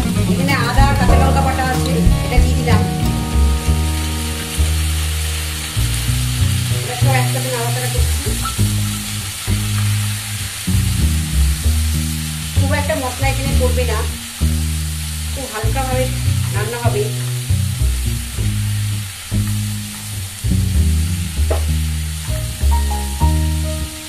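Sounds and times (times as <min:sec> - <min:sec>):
background music low notes: 0:00.0 - 0:24.0
vegetables sizzling in a pan: 0:00.0 - 0:24.0.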